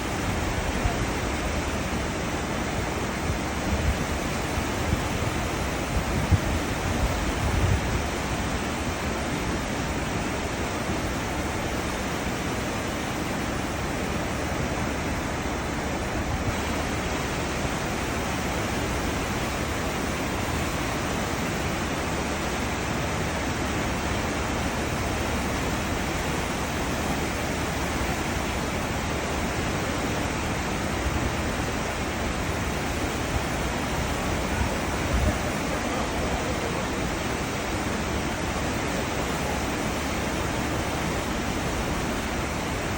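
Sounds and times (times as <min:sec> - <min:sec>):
seawater churning and rushing: 0:00.0 - 0:42.9.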